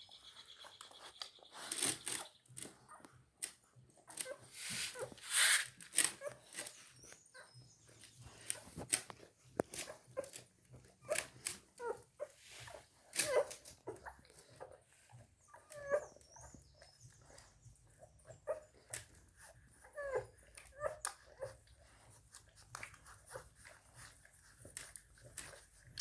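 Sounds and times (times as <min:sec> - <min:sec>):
puppies whimpering and squeaking: 0:00.0 - 0:26.0.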